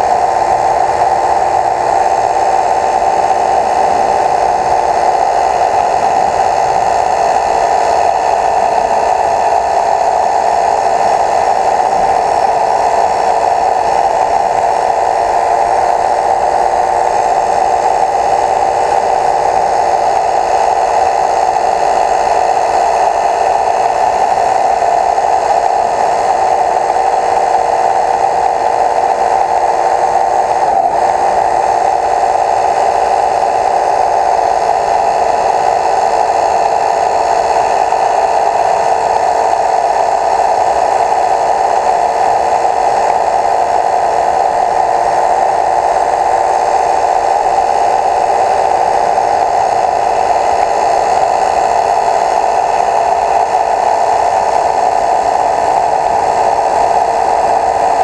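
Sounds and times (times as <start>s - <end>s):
small motor whirring: 0.0s - 58.0s.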